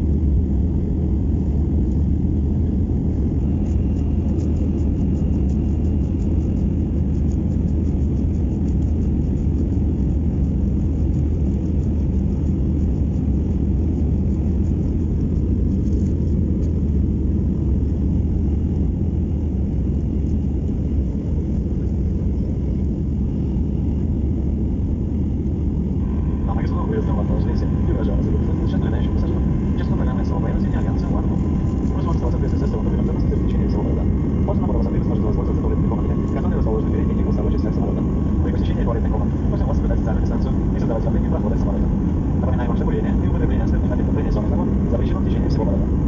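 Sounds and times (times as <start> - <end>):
airliner cabin engine rumble: 0.0 - 46.0.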